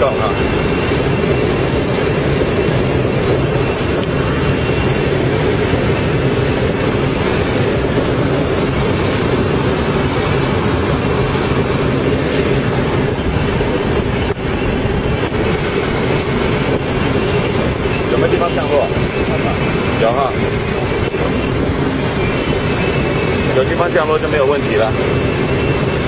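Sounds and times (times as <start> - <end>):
rush of airflow: 0.0 - 26.0.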